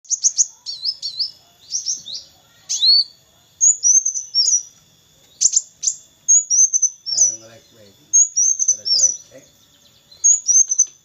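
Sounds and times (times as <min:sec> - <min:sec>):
sunbird singing high chirps: 0:00.0 - 0:11.0.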